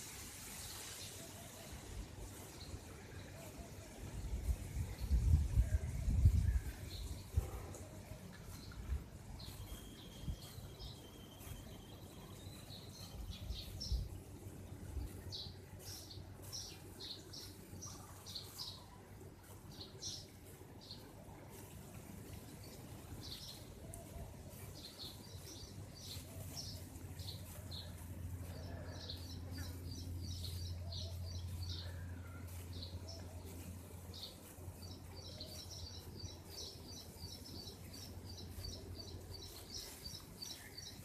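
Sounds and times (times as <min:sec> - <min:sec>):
small birds chirping: 0:00.0 - 0:41.0
steady low rumble: 0:02.9 - 0:41.0.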